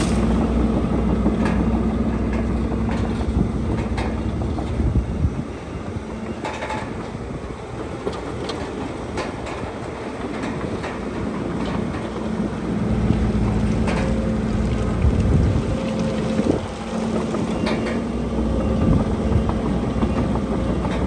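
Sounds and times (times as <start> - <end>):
bulldozer diesel engine: 0.0 - 21.0.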